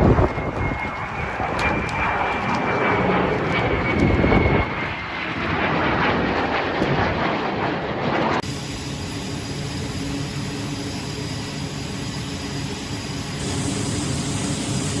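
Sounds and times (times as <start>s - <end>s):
jet engine roar with turbine whine: 0.0s - 15.0s.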